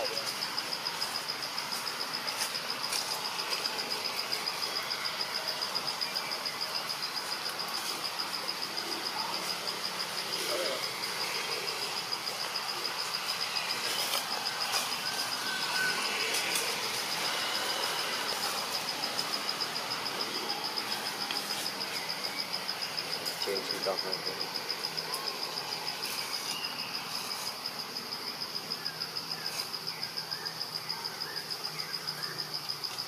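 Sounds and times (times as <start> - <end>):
insect pulsing chirp: 0.0 - 33.0.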